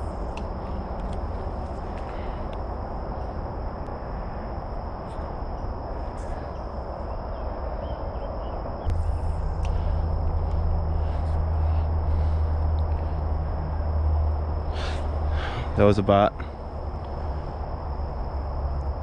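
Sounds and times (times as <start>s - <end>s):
high-pitched insect drone: 0.0s - 19.0s
low rumble: 0.0s - 19.0s.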